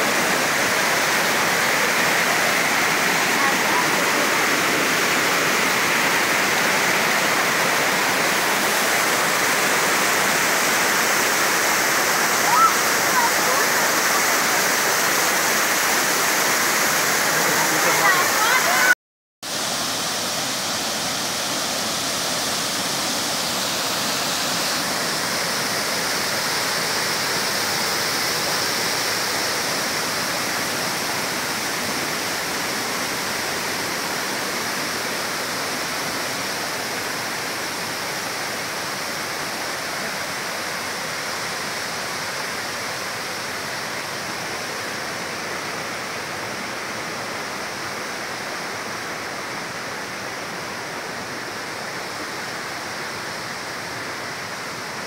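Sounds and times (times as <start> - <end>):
waterfall and creek rushing: 0.0 - 55.0.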